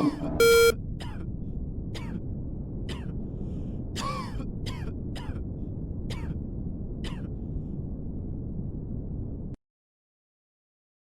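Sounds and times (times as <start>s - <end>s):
low background rumble: 0.0s - 9.6s.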